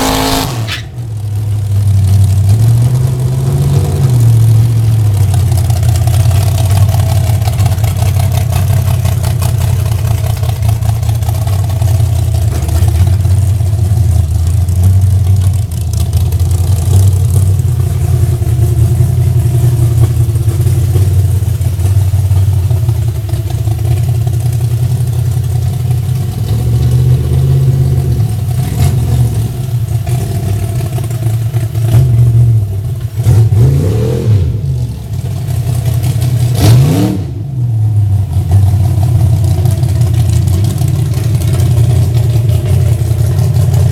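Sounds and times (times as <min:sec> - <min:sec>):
car engine idling loudly: 0:00.0 - 0:43.9.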